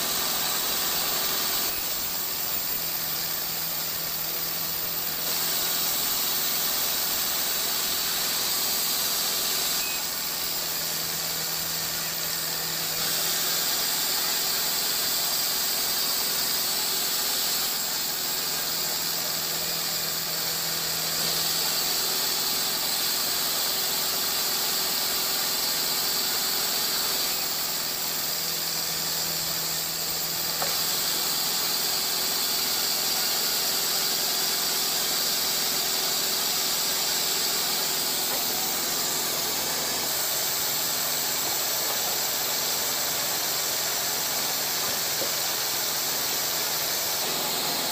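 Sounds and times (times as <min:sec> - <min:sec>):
sawmill machinery hissing: 0:00.0 - 0:47.9.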